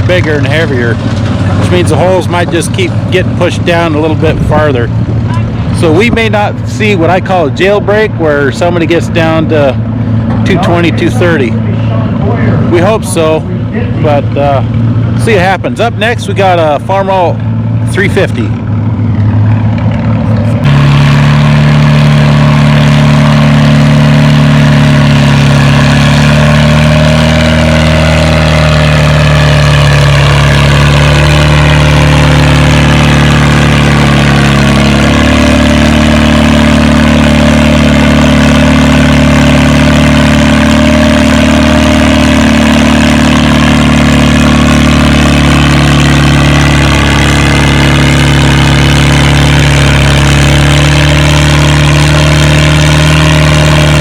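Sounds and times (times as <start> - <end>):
tractor engine working under load: 0.0 - 54.0.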